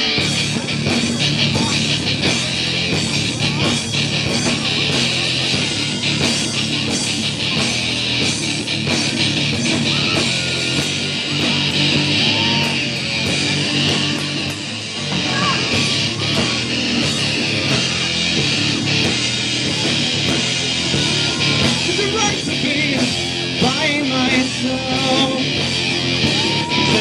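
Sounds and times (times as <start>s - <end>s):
drum kit steady beat: 0.0s - 27.0s
electric bass: 0.0s - 27.0s
electric guitar: 0.0s - 27.0s.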